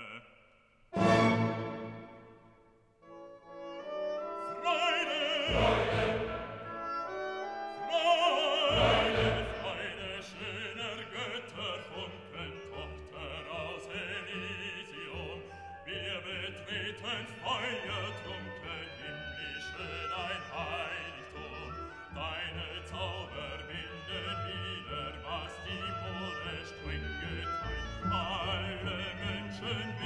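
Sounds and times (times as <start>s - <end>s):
operatic singing voice: 4.4s - 6.8s, 7.8s - 30.0s.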